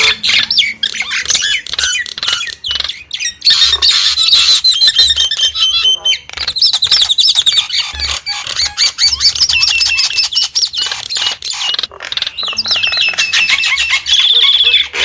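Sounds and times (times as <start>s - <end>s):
starling singing: 0.0s - 15.0s.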